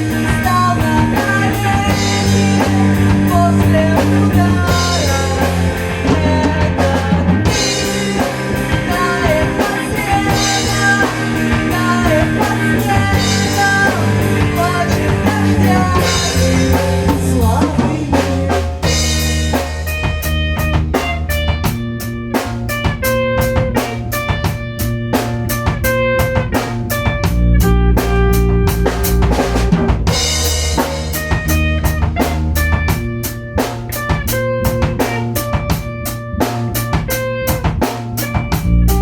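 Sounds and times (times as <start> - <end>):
low bass notes: 0.0 - 39.0
rock music: 0.0 - 39.0.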